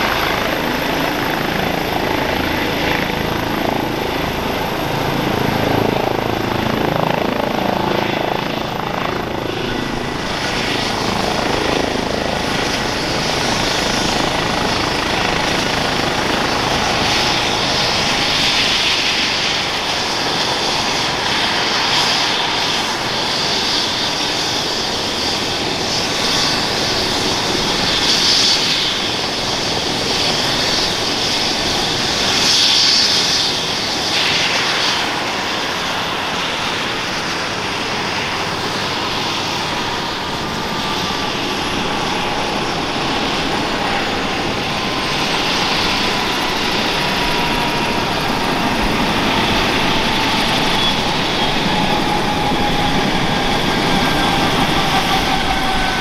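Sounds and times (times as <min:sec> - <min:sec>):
helicopter turbine and rotor noise: 0:00.0 - 0:56.0.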